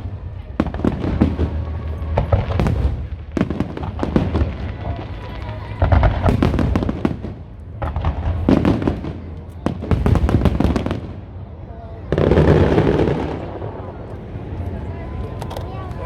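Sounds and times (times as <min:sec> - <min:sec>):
fireworks bangs and crackles: 0:00.0 - 0:16.0
low rumble of fireworks: 0:00.0 - 0:16.0.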